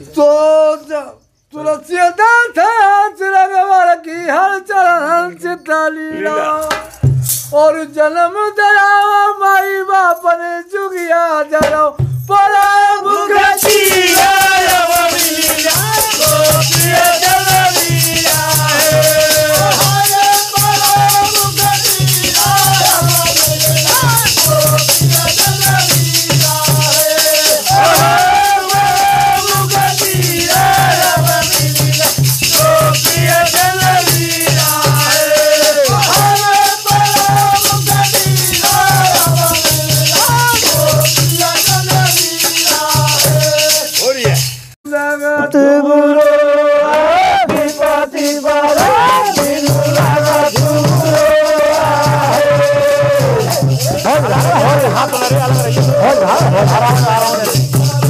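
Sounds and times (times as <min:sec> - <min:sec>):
men singing folk song: 0:00.0 - 0:07.0, 0:07.6 - 0:58.0
fast jingling percussion: 0:05.6 - 0:07.9, 0:08.9 - 0:58.0.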